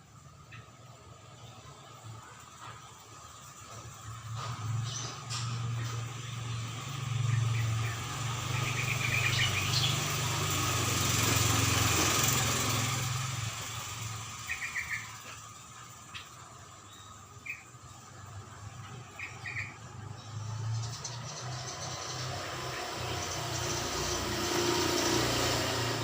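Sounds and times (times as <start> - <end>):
rapid bird chirps: 0.1 - 26.0
vehicle engine passing by: 0.2 - 26.0.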